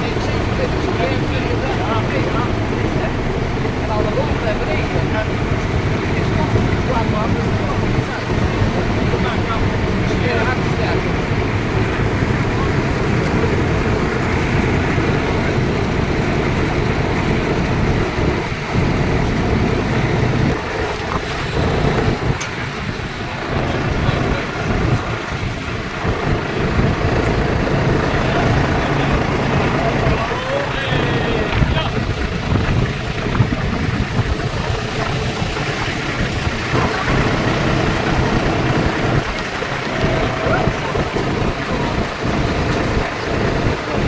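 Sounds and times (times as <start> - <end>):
tractor engines running: 0.0 - 44.0.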